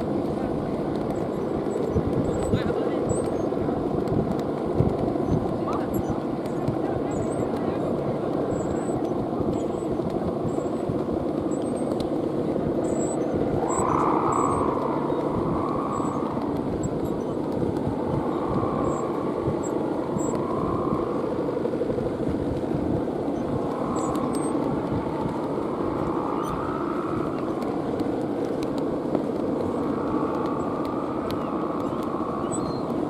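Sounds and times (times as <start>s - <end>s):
droning hum overhead: 0.0s - 33.0s
wind on microphone: 0.0s - 33.0s.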